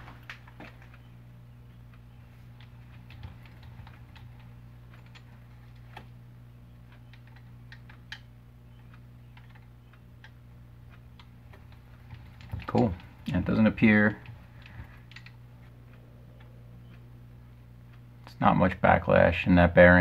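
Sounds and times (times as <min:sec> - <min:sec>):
steady low hum: 0:00.0 - 0:20.0
crank clicking and ticking: 0:00.2 - 0:20.0.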